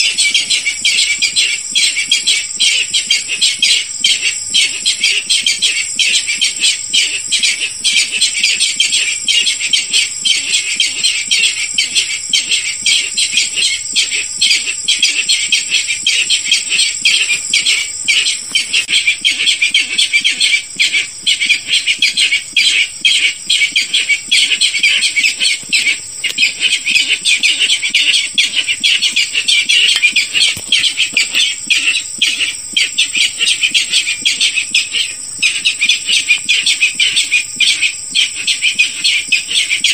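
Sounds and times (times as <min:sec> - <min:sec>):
high pulsing insect-like trill: 0:00.0 - 0:39.9
rapid harsh bird calls: 0:00.0 - 0:39.9.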